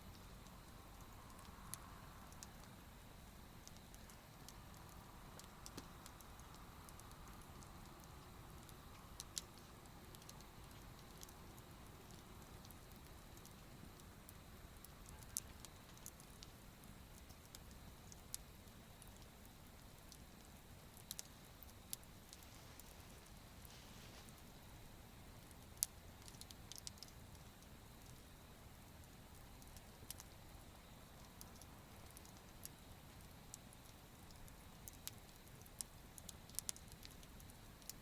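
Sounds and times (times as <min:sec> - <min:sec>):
campfire crackling and popping: 0:00.0 - 0:38.0
low steady hiss: 0:00.0 - 0:38.0.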